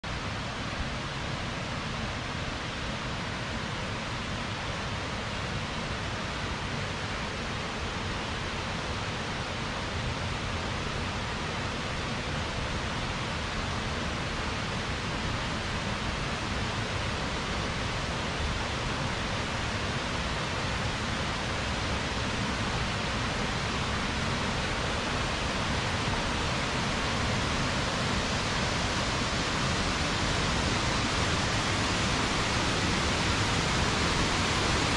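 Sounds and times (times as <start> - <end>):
waterfall rushing: 4.1 - 34.9.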